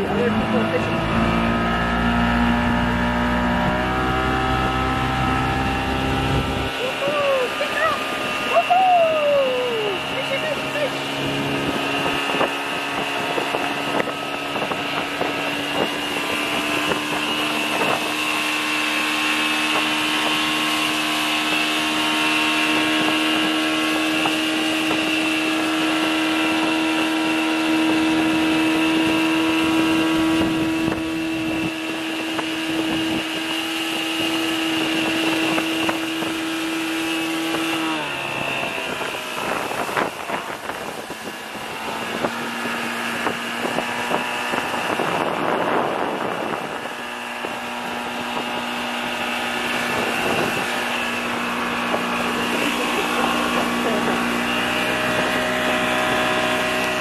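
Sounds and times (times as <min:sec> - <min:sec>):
outboard motor running: 0:00.0 - 0:57.0
water rushing from wake: 0:00.0 - 0:57.0.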